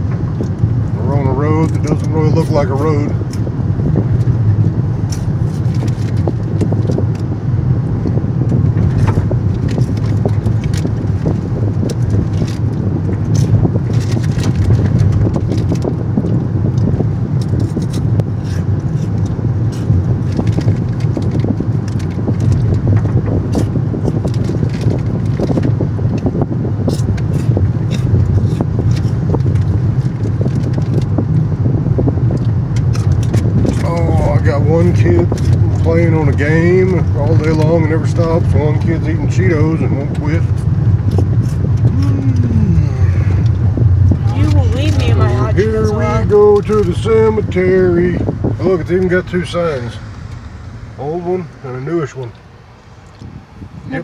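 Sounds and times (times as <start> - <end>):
low rumble of tyres and engine: 0.0 - 54.0.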